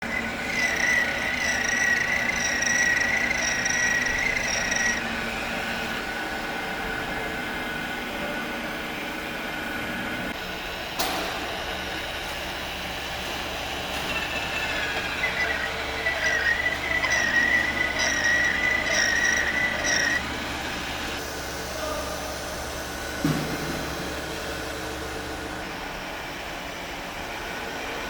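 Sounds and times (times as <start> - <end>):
machine hum: 0.0 - 28.0
metal-cutting machine whine: 0.0 - 28.0.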